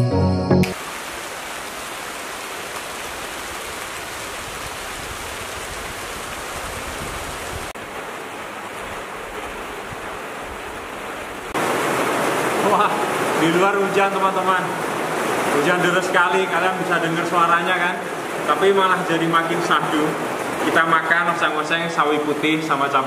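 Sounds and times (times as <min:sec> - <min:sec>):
heavy rain pouring: 0:00.7 - 0:23.0.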